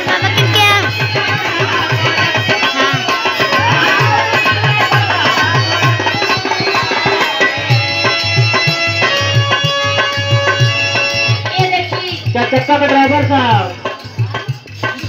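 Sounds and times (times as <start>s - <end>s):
hand drum rhythm: 0.0s - 15.0s
harmonium melody: 0.0s - 15.0s.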